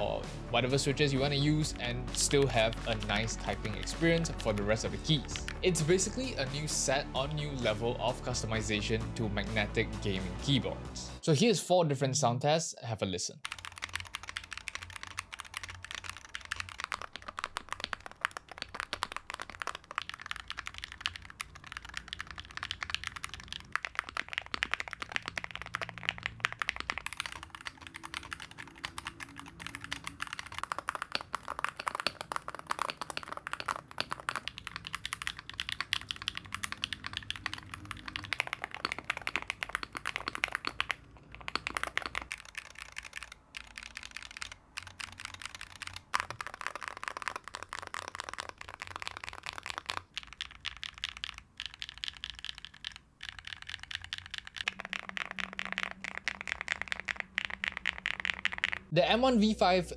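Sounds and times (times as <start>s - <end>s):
keyboard typing clacks: 0.0s - 8.6s, 13.4s - 58.9s.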